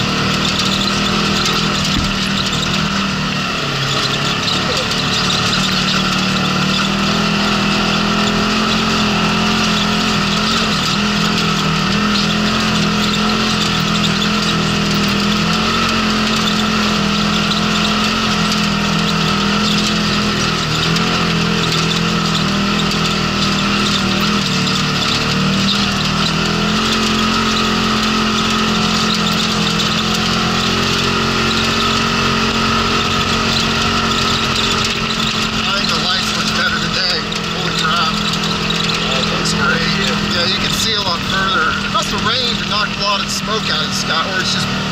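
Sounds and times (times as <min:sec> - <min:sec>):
tyres on gravel: 0:00.0 - 0:44.9
vehicle engine running: 0:00.0 - 0:44.9.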